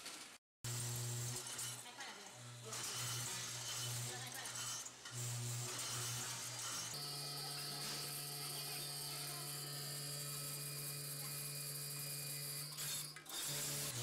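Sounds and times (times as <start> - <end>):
packaging machine humming: 0.1 - 14.0.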